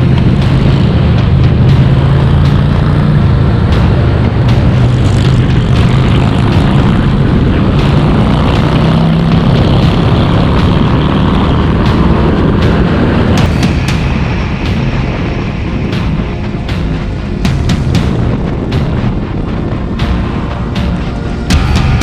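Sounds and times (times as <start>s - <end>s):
continuous rushing noise: 0.0s - 22.0s
motorcycle engine running: 0.0s - 22.0s.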